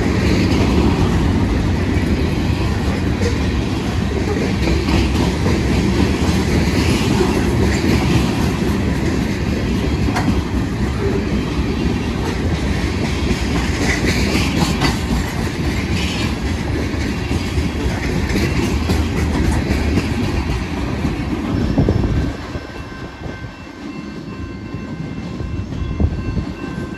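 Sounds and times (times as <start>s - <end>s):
wheels clacking over rail joints: 0.0s - 22.8s
train wheels rumbling on rails: 0.0s - 26.9s.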